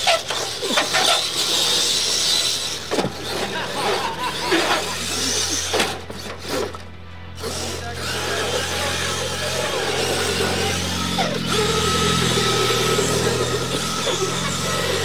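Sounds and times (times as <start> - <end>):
toy truck motor whine: 0.0 - 15.0.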